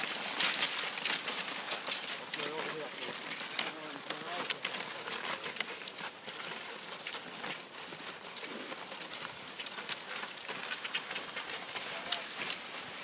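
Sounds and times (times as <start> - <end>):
ski poles and strides on snow: 0.0 - 13.0.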